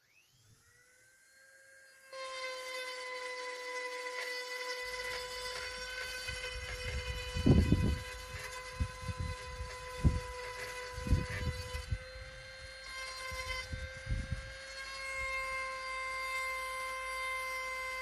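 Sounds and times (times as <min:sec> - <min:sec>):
power grinder whining: 0:00.0 - 0:18.0.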